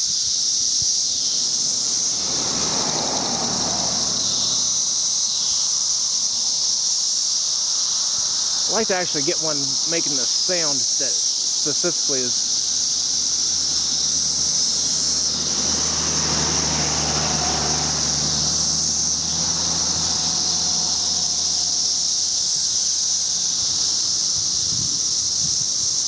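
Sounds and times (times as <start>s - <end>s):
cicadas chorus shrill drone: 0.0s - 26.0s.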